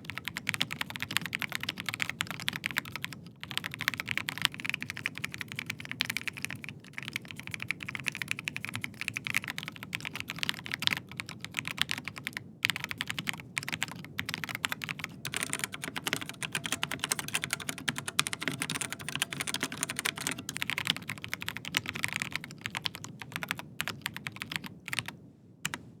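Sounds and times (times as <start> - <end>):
fast typing on mechanical keyboard: 0.0 - 25.1.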